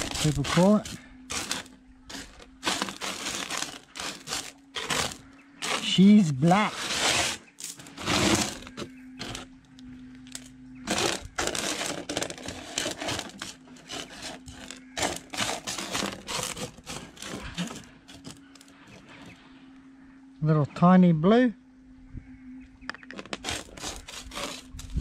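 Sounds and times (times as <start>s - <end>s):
gravel raked on metal table: 0.0s - 9.5s, 10.3s - 19.4s, 23.2s - 25.0s.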